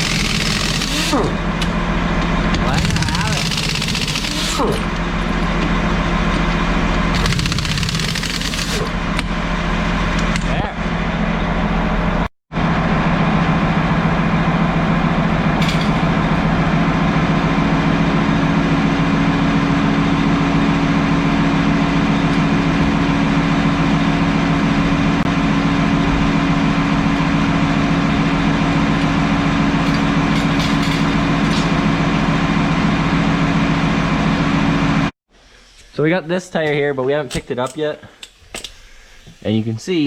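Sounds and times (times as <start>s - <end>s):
machine humming: 0.0s - 35.1s.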